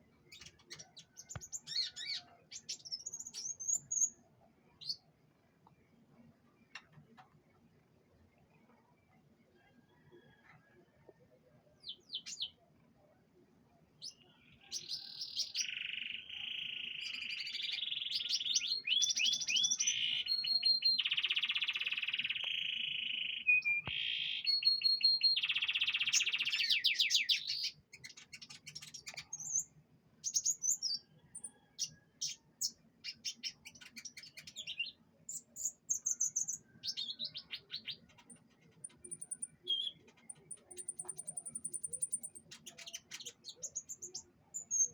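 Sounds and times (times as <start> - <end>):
canary singing trills: 0.0 - 5.1, 14.0 - 44.9.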